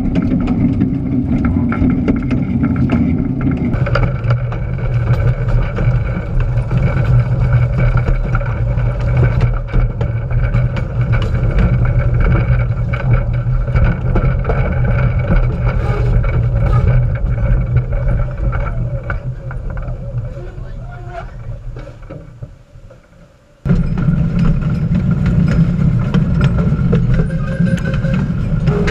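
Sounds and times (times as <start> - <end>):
small train rumbling on track: 0.0 - 28.9.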